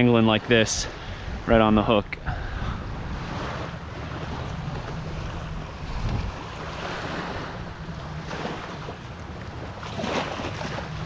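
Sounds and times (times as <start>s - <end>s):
small waves washing onto sand: 0.0s - 11.0s
wind buffeting the microphone: 0.6s - 11.0s.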